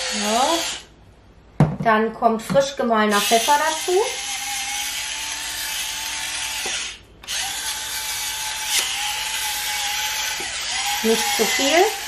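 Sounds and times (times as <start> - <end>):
electric pepper mill whirring: 0.0 - 0.9, 3.1 - 12.0.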